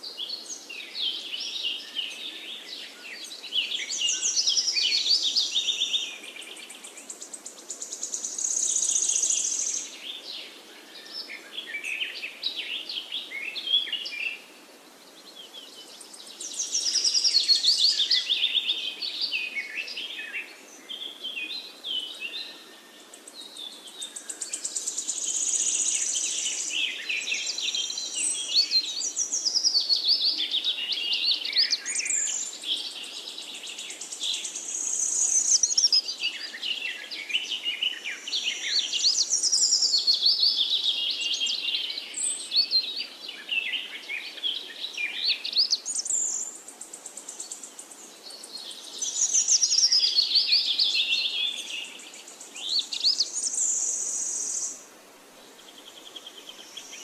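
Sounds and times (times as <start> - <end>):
small birds singing: 0.0 - 57.0.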